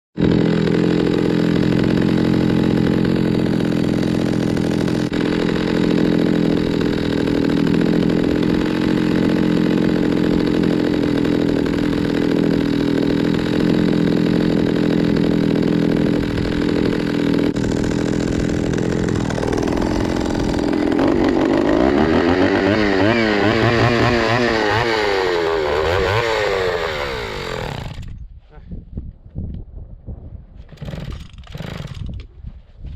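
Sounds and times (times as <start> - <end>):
chainsaw running at high speed: 0.2 - 28.2, 30.7 - 32.2.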